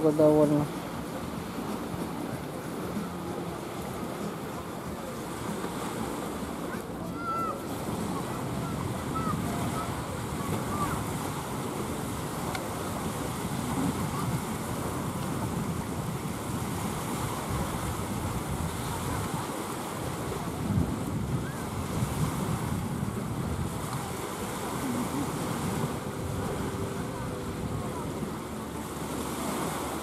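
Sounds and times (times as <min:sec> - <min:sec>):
small waves washing on shore: 0:00.0 - 0:30.0
wind on microphone: 0:00.6 - 0:30.0.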